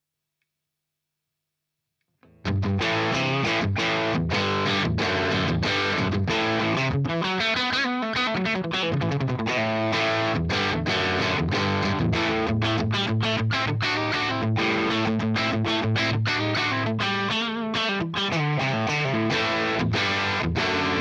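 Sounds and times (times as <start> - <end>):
distorted electric guitar playing: 2.3 - 21.0.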